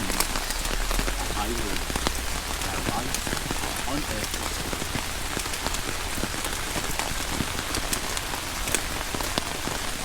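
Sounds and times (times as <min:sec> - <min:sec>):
heavy rain falling: 0:00.0 - 0:10.0
raindrops tapping close by: 0:00.0 - 0:10.0.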